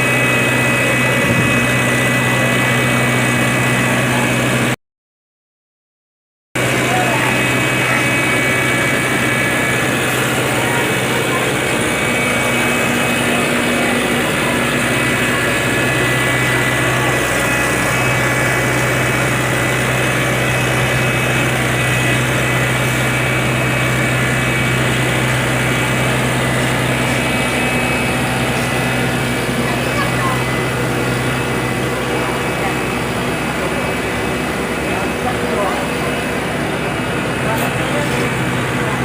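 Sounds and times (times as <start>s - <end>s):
heavy diesel machinery drone: 0.0s - 4.8s, 6.6s - 39.0s
high machine whine: 0.0s - 4.8s, 6.6s - 39.0s.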